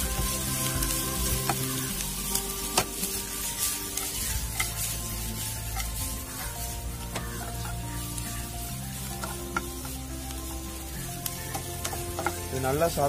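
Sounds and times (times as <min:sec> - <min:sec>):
vegetables sizzling in hot oil: 0:00.0 - 0:13.0
spatula clicking and scraping pan: 0:00.5 - 0:10.6, 0:11.2 - 0:12.5.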